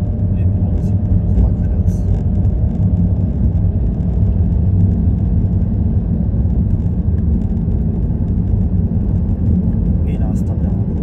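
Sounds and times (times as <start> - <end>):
car driving cabin rumble: 0.0 - 11.0.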